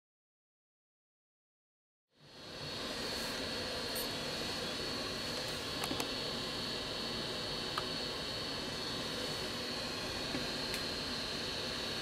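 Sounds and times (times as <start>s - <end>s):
fan hissing: 2.2s - 12.0s.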